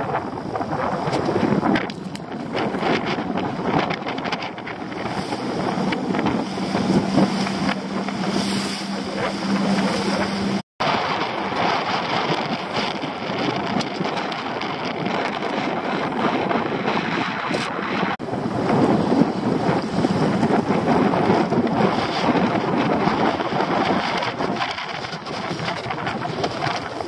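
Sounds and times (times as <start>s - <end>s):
outboard motor humming: 0.0s - 27.0s
water splashing along hull: 0.0s - 27.0s
wind buffeting microphone: 0.0s - 27.0s.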